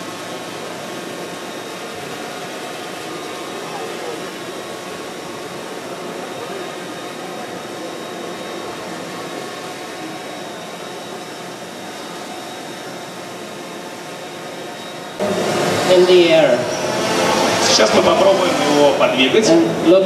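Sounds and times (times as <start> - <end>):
drone propellers whirring: 0.0 - 20.0
faint murmur of voices: 1.8 - 20.0.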